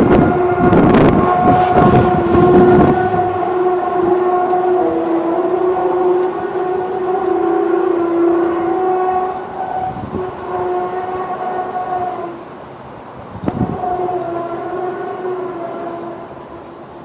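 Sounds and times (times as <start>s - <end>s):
trumpet-like drone: 0.0s - 17.0s.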